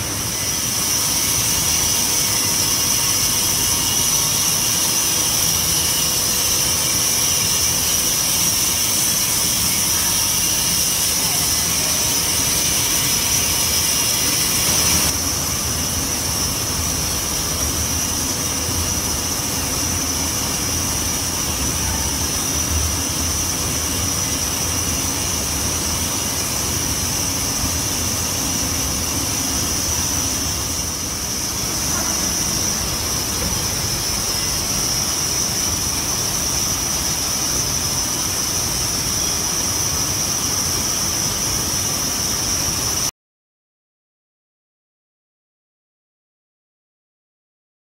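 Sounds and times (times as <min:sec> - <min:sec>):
steam hissing: 0:00.0 - 0:43.1.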